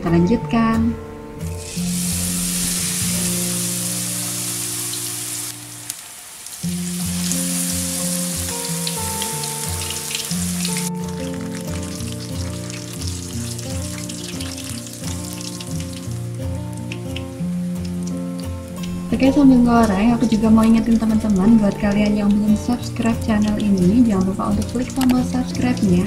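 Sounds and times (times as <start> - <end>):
leaves deep-frying in oil: 1.5 - 26.0.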